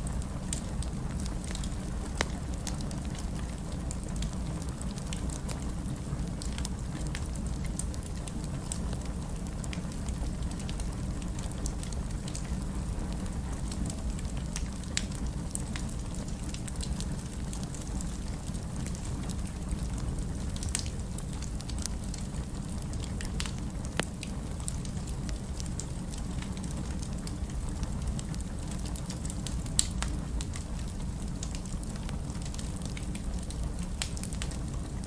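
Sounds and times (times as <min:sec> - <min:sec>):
fire popping and crackling: 0:00.0 - 0:35.0
fire rumble: 0:00.0 - 0:35.0.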